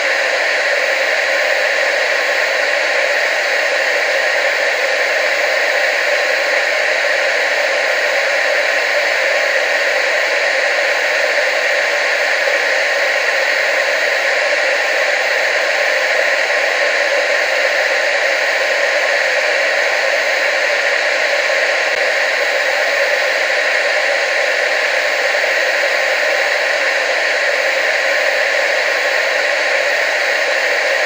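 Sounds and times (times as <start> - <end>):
tv static hiss: 0.0 - 31.0.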